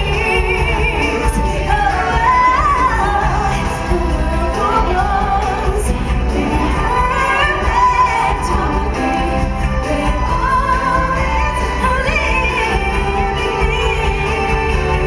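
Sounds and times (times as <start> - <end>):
stage-show music with singing: 0.0 - 15.0.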